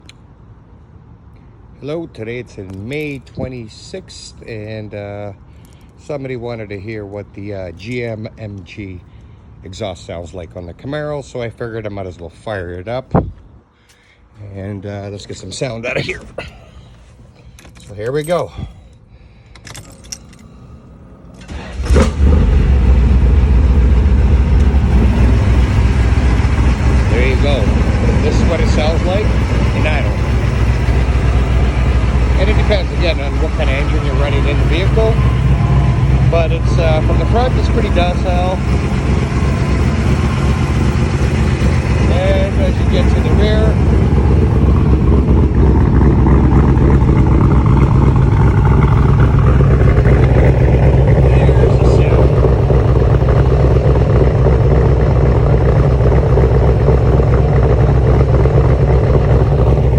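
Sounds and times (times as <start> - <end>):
car engine starting and idling: 0.0 - 59.9.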